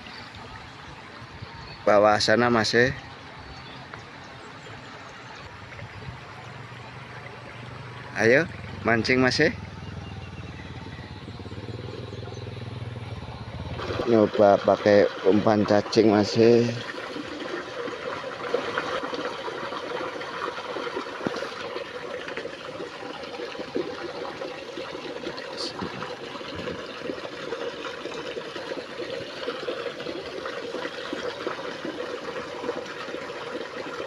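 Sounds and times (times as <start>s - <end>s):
water running in a channel: 0.0s - 34.0s.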